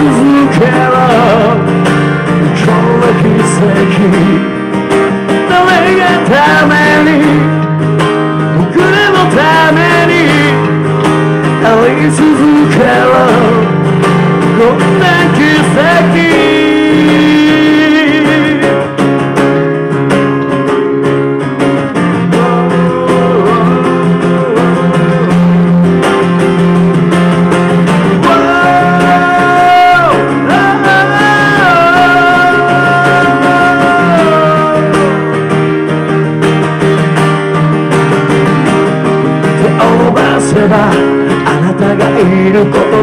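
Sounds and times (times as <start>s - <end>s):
acoustic guitar and bass ballad: 0.0s - 43.0s.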